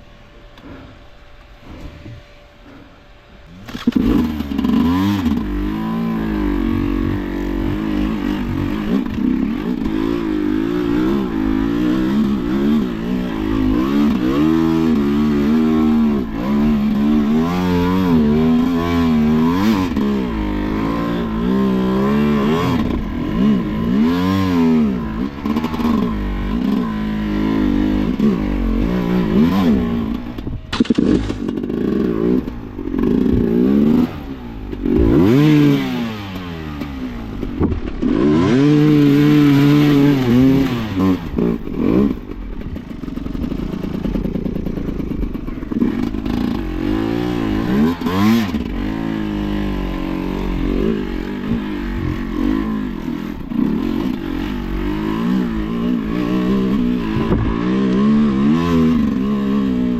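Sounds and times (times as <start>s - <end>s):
motorcycle engine revving: 1.6s - 59.9s.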